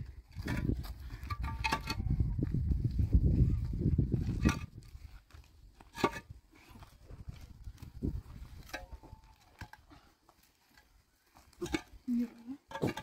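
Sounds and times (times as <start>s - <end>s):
concrete blocks knocking and scraping: 0.0s - 2.4s, 4.1s - 10.1s, 10.7s - 13.0s.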